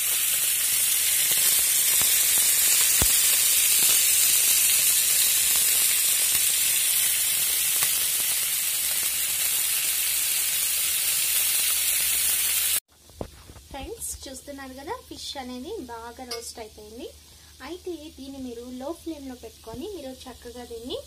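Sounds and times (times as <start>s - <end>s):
fish sizzling in oil: 0.0s - 12.8s, 13.7s - 21.0s.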